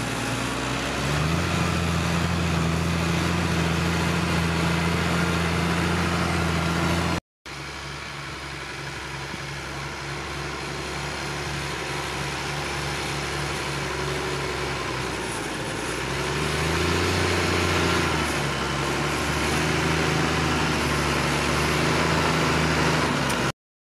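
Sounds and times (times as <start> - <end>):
tractor diesel engine under load: 0.0 - 23.6.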